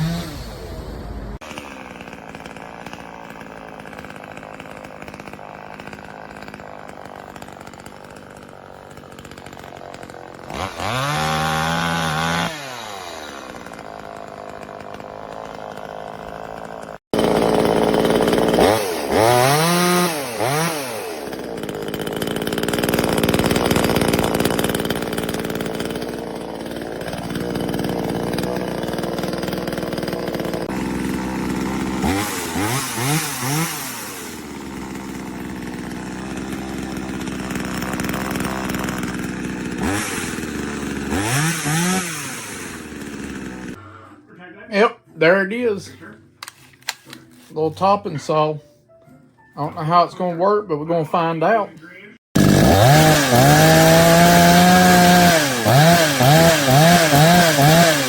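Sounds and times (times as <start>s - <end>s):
chainsaw engine idling and revving: 0.0s - 43.8s, 52.3s - 58.0s.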